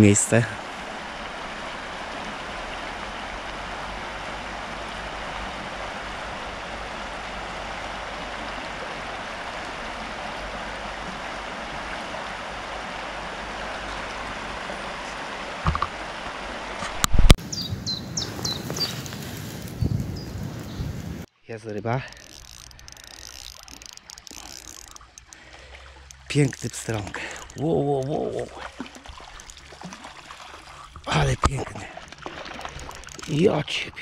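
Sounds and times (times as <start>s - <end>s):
river water rushing: 0.0s - 17.0s, 22.1s - 33.6s.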